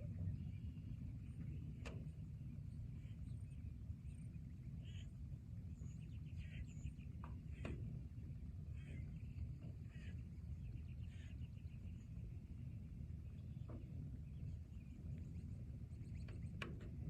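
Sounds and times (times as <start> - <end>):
steady low rumble: 0.0 - 17.0
small birds chirping: 0.3 - 16.6.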